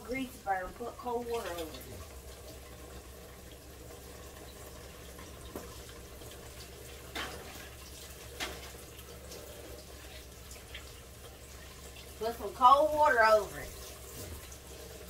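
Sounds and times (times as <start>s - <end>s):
faucet running into sink: 0.0s - 15.0s.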